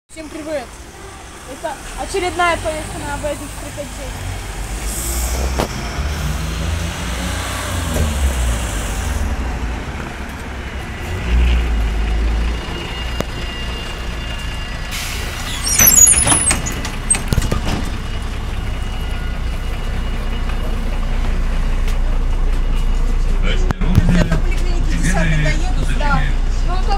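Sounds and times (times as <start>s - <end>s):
diesel bus engine rumbling: 0.1s - 26.9s.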